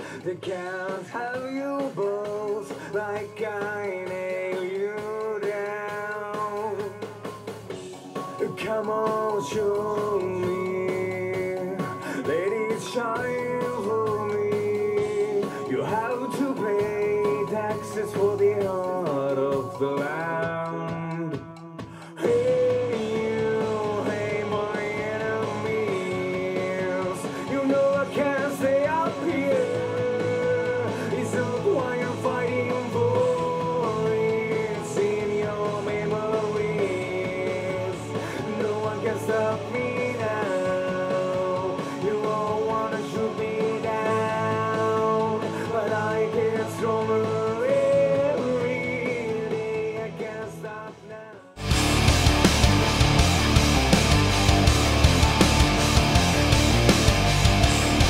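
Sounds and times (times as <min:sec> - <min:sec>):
rock song: 0:00.0 - 0:58.0.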